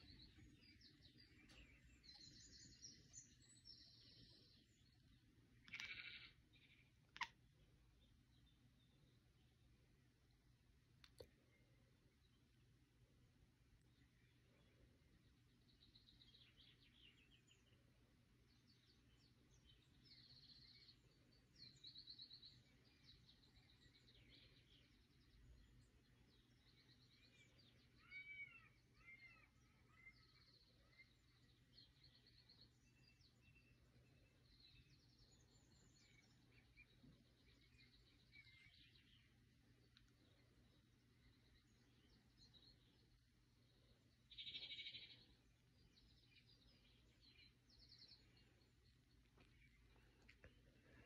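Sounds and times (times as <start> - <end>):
birds chirping and trilling: 0.0 - 51.0.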